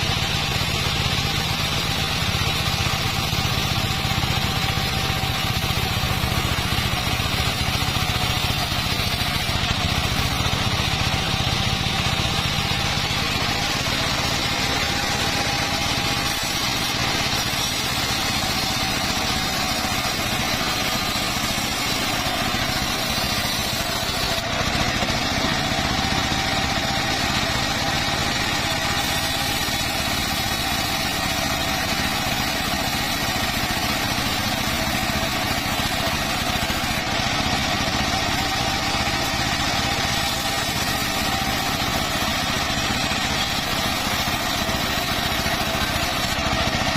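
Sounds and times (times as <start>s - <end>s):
circular saw whine: 0.0s - 46.9s.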